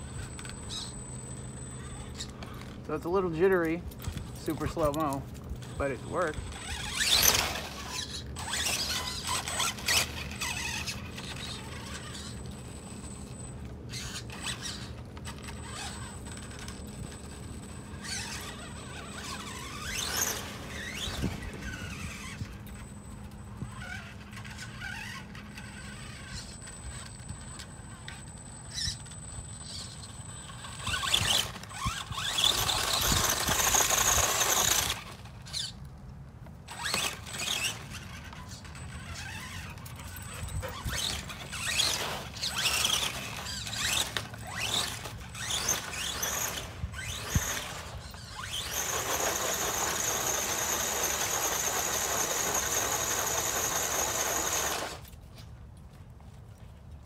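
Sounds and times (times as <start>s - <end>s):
tyres spinning on loose dirt: 0.0s - 35.7s, 36.6s - 55.0s
electric motor whining: 0.0s - 35.8s, 36.6s - 55.1s.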